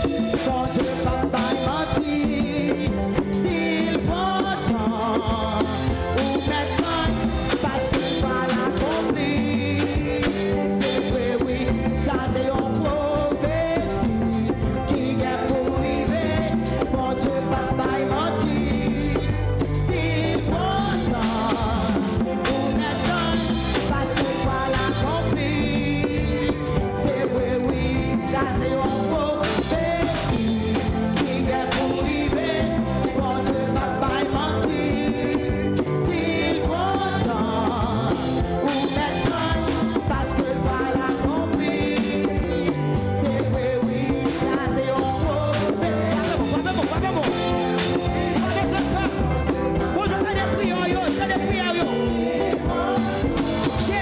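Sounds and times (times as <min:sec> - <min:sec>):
drum kit steady beat: 0:00.0 - 0:54.0
live band playing worship song: 0:00.0 - 0:54.0
people singing: 0:00.0 - 0:54.0.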